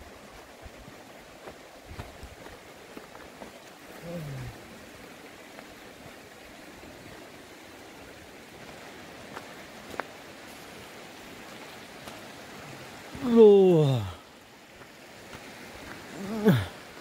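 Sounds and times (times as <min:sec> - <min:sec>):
stream running over stones: 0:00.0 - 0:17.0.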